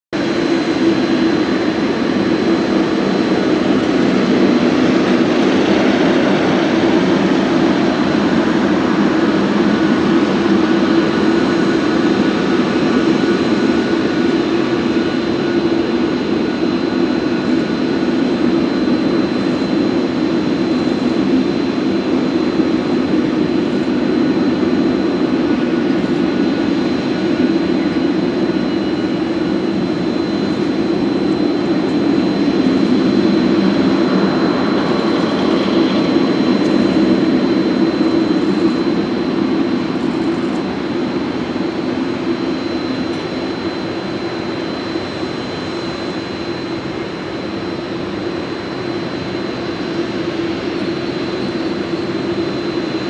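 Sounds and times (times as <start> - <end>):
jet engine rumble and whine: 0.1 - 53.0.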